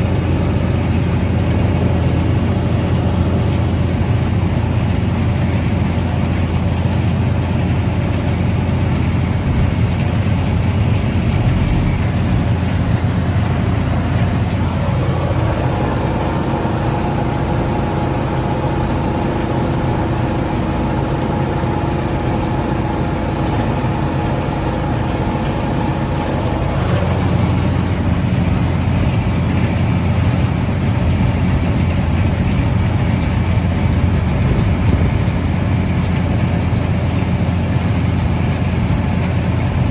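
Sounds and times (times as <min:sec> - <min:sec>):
mechanical whine: 0:00.0 - 0:39.9
tractor engine running: 0:00.0 - 0:39.9.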